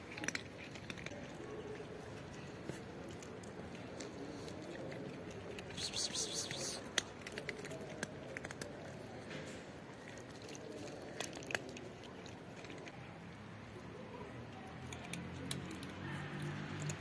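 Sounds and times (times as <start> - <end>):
cat chewing wetly: 0.0 - 17.0.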